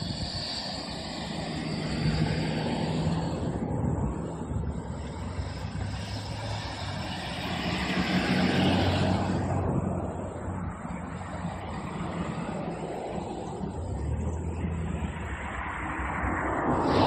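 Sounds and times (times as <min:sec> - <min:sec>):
diesel locomotive engine hum: 0:00.0 - 0:17.0
train rushing noise: 0:00.0 - 0:17.0.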